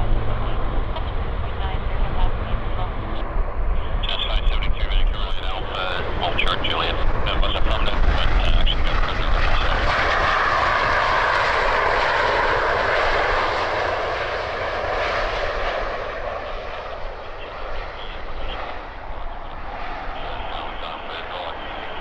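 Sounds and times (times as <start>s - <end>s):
jet airliner passing: 0.0s - 22.0s.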